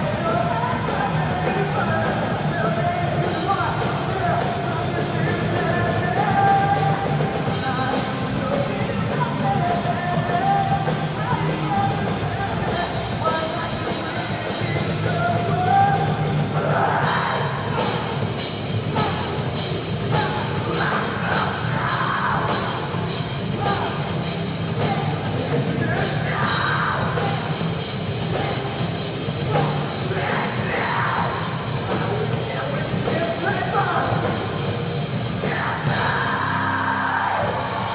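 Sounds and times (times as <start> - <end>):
singer shouting: 0.0 - 18.2, 20.1 - 34.4, 35.3 - 37.9
live rock band playing: 0.0 - 37.9.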